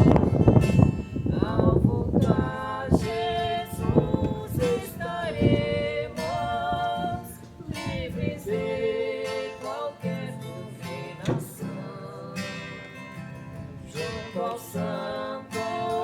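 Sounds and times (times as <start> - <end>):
acoustic guitar: 0.0 - 16.0
woman and man singing a hymn: 1.2 - 16.0.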